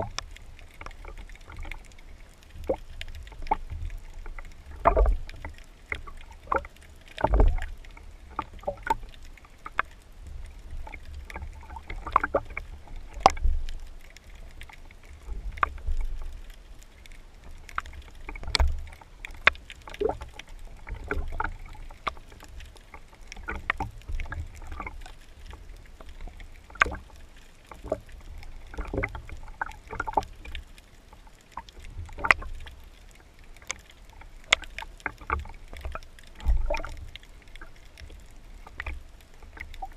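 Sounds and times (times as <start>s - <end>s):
underwater rumble: 0.0s - 39.9s.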